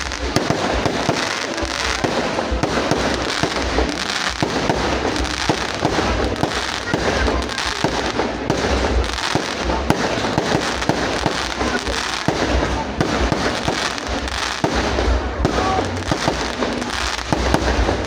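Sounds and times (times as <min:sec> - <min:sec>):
fireworks crackling and booming: 0:00.0 - 0:18.0.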